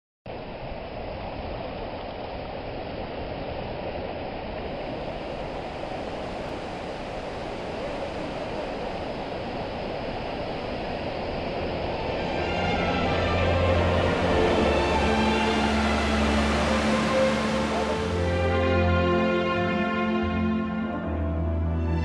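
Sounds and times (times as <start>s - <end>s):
steady rushing noise: 0.3s - 20.9s.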